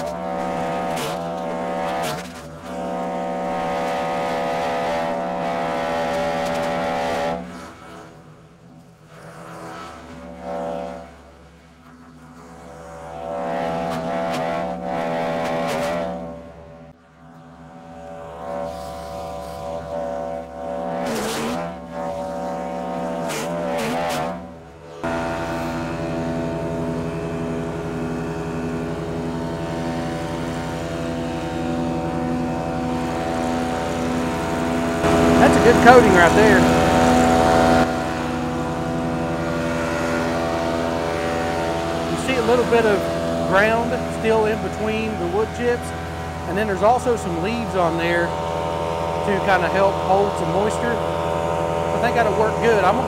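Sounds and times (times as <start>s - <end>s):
chipper grinding wood: 0.0s - 53.0s
wood chipper engine running: 0.0s - 53.0s.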